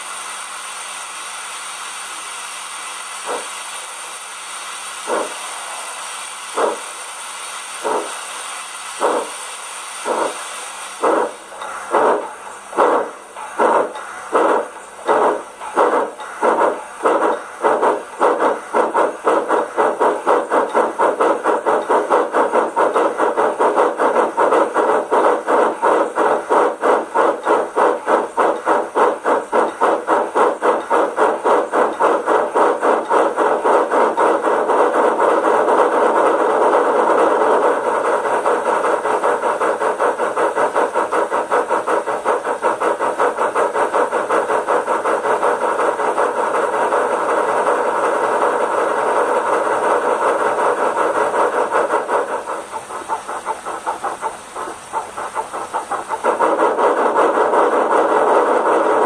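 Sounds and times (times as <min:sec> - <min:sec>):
model locomotive steam chuffs: 0:00.0 - 0:59.0.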